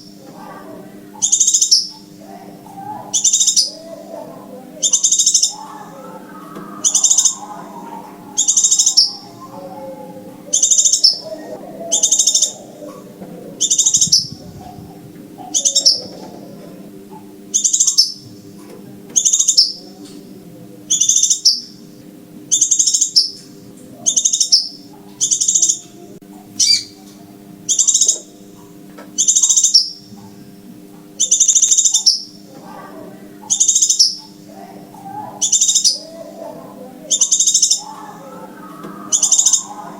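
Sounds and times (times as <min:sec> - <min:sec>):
high buzzy bird trill: 0:00.0 - 0:20.1, 0:20.8 - 0:28.5, 0:29.2 - 0:30.2, 0:31.2 - 0:39.9
faint low hum: 0:00.0 - 0:39.9.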